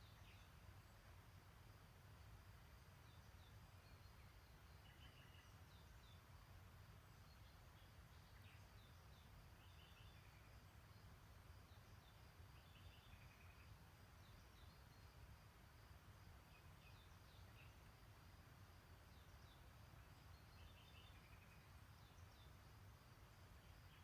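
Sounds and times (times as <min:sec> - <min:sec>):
faint songbirds chirping: 0:00.0 - 0:24.0.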